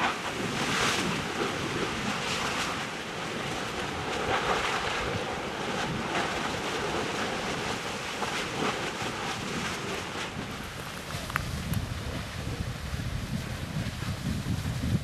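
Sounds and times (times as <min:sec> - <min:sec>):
lava churning and spattering: 0:00.0 - 0:15.0.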